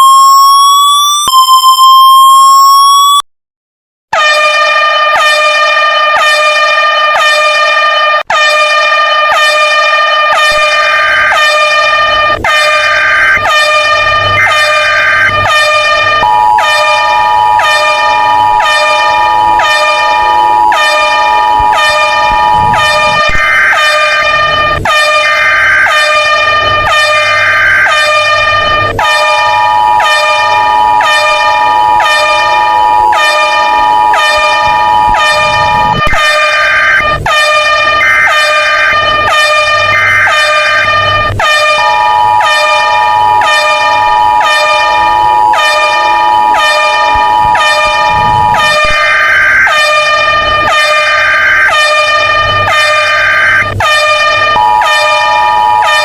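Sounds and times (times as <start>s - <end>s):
pulsing harsh alarm horn: 0.0s - 3.2s, 4.1s - 56.0s
steady high alarm tone: 0.0s - 3.3s, 4.2s - 56.0s.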